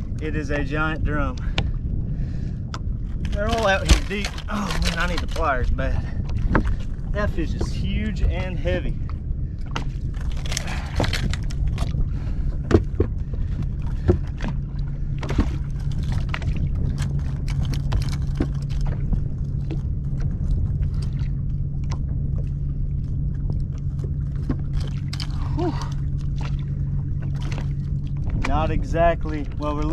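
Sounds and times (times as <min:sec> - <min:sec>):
low rumble: 0:00.0 - 0:29.9.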